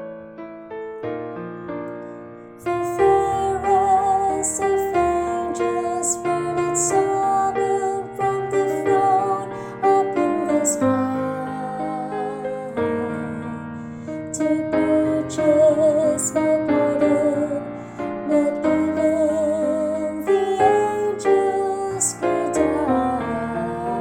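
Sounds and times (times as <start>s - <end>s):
piano accompaniment: 0.0s - 24.0s
woman singing choral line: 2.7s - 13.5s, 14.3s - 24.0s.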